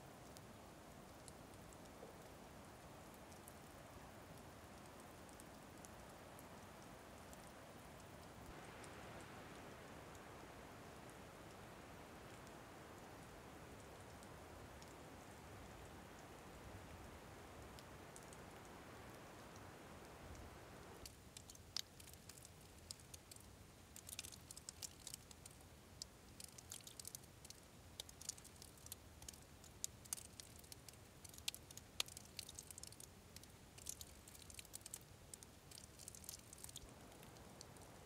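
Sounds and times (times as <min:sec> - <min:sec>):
soft hiss: 0:00.0 - 0:38.0
faint crackling clicks: 0:00.1 - 0:38.0.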